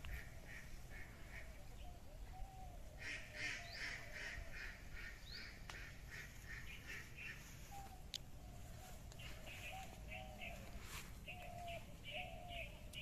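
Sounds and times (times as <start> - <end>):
birds calling rapidly: 0.0 - 13.0.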